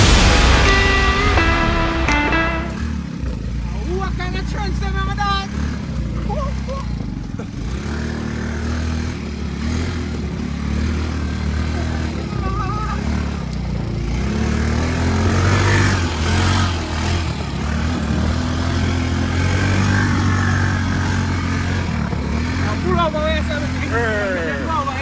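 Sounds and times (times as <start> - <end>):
atv engine running: 3.0 - 25.0.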